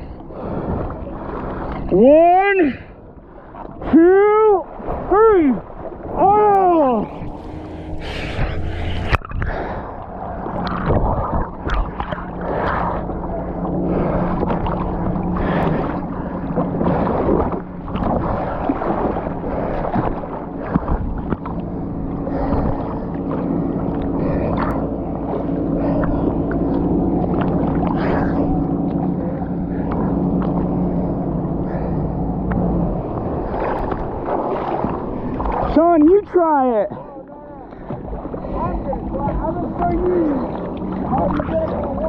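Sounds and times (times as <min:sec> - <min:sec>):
motor engine droning: 0:00.0 - 0:42.0.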